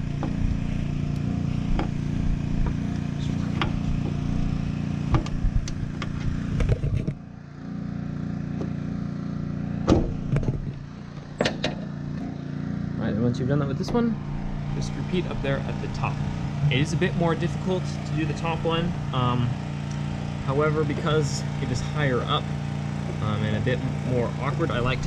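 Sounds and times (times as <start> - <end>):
pressure washer running: 0.0 - 25.0.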